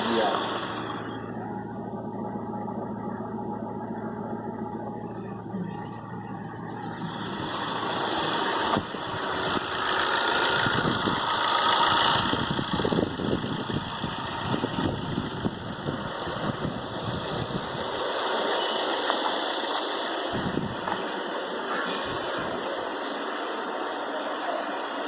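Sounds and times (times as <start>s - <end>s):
car engine idling: 0.0s - 21.7s.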